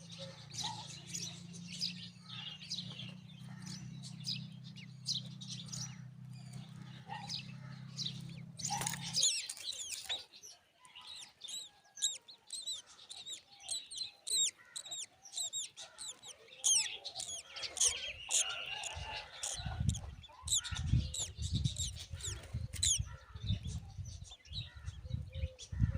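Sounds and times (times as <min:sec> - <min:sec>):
bird chicks chirping: 0:00.0 - 0:25.9.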